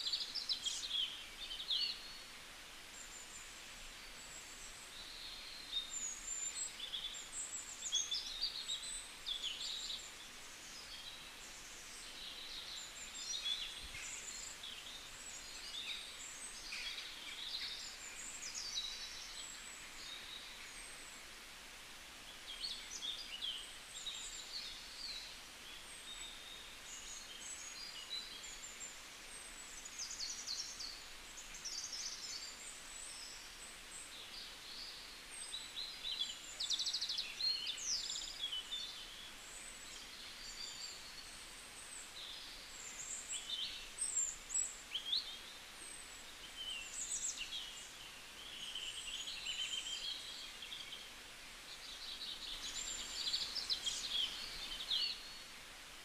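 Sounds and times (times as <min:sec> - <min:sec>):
small birds chirping: 0:00.0 - 0:21.5, 0:22.2 - 0:56.0.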